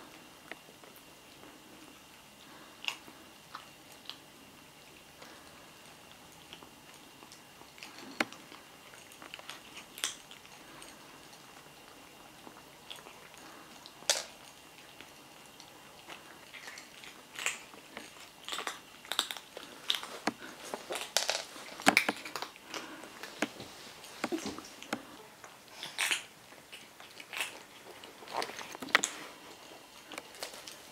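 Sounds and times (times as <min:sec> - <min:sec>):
kittens crunching dry kibble: 0:00.0 - 0:30.9.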